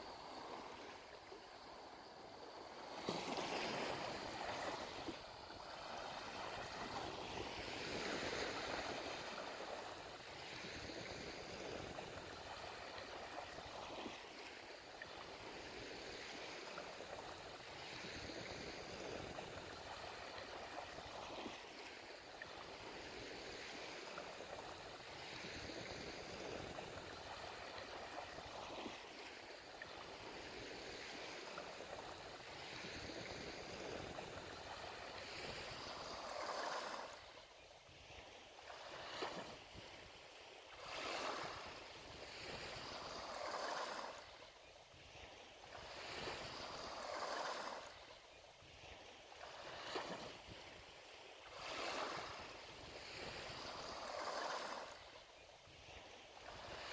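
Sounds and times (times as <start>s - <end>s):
waves washing onto shore: 0.0s - 56.9s.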